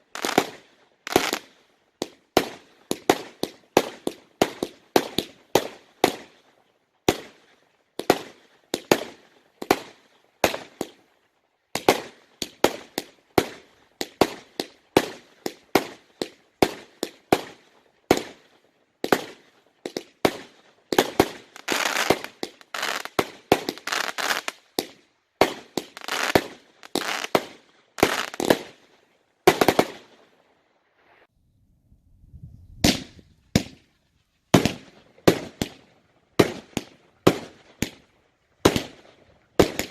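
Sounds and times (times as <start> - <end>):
fireworks bangs and crackling: 0.0 - 11.1, 11.7 - 30.4, 32.8 - 33.9, 34.5 - 39.9.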